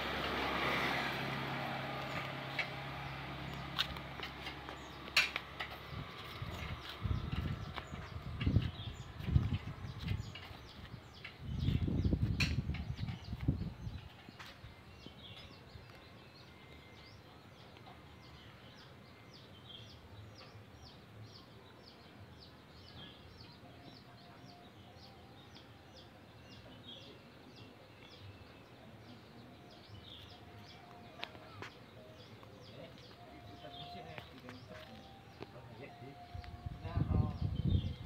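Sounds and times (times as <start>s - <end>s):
bird chirping: 2.0s - 38.0s.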